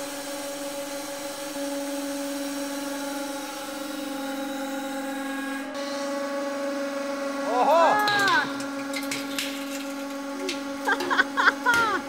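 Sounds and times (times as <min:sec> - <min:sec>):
hydraulic pump motor humming: 0:00.0 - 0:12.0.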